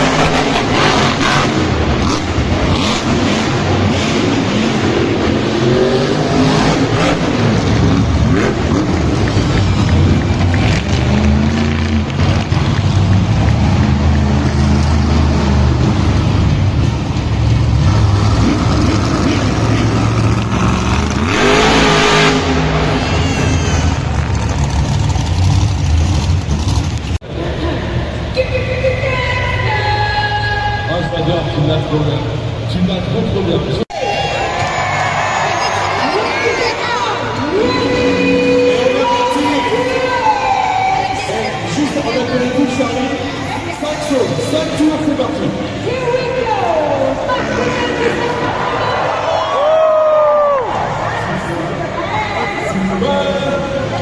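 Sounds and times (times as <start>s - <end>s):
monster truck engines revving: 0.0s - 54.0s.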